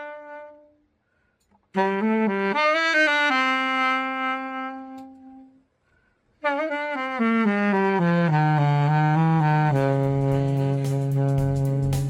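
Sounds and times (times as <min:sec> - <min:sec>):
alto saxophone playing: 0:00.0 - 0:12.0.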